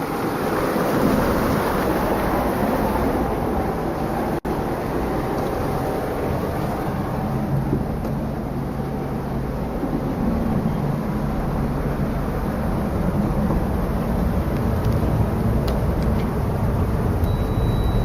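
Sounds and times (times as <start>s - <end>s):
boat engines idling: 0.0s - 18.0s.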